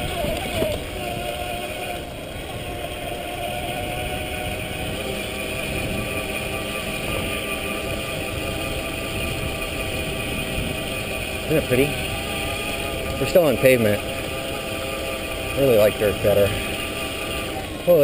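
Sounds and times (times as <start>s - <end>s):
electric bike motor whine: 0.0s - 18.0s
low riding rumble: 0.0s - 18.0s.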